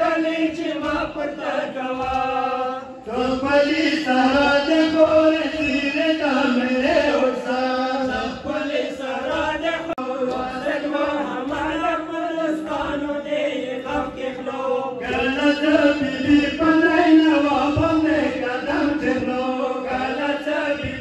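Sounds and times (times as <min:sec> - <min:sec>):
men chanting into a microphone: 0:00.0 - 0:21.0.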